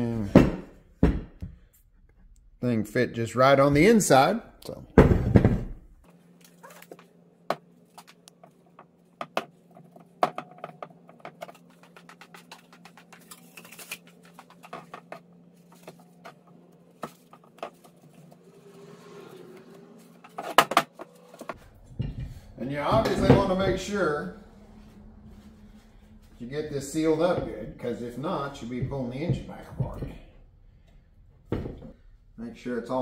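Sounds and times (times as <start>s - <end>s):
steady low hum: 1.6s - 33.0s.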